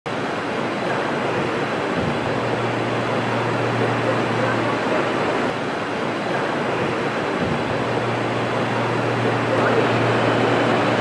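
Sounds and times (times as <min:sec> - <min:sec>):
street traffic: 0:00.1 - 0:11.0
low steady hum: 0:00.2 - 0:11.0.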